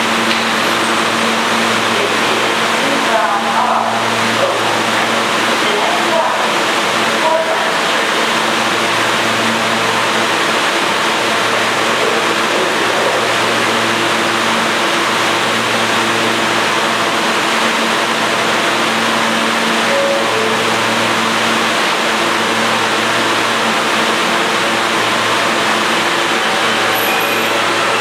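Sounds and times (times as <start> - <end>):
subway train humming: 0.0 - 28.0.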